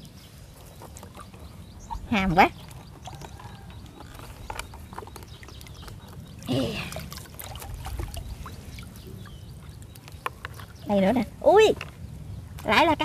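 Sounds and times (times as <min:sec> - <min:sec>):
small water splashes: 0:00.8 - 0:12.8.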